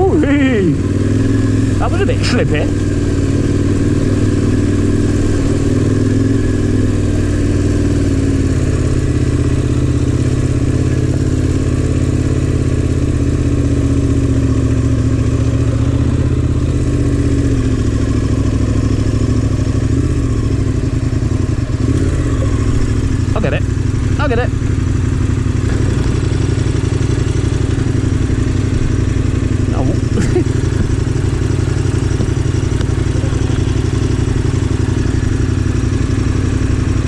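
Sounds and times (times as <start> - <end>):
motorcycle engine at low revs: 0.0 - 37.0.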